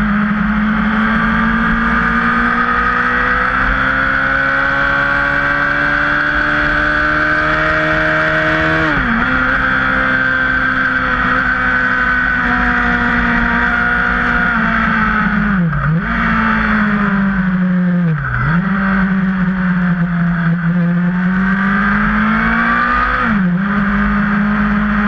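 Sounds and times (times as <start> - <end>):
motorcycle engine running hard: 0.0 - 25.0.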